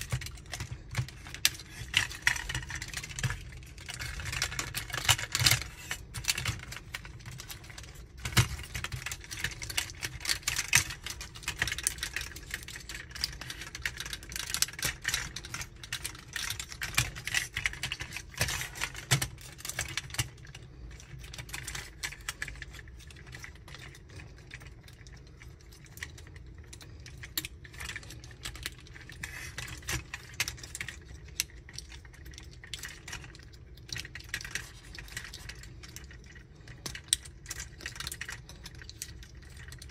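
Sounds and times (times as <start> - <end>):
plastic toy parts clicking: 0.0 - 39.9.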